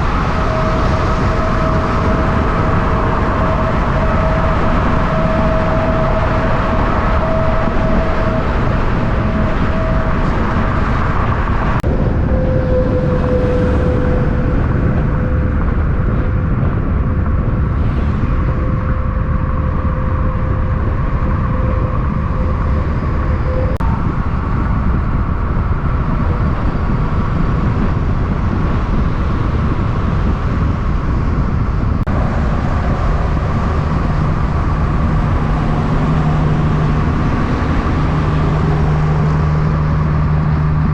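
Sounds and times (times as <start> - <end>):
road vehicle engine noise: 0.0 - 40.9.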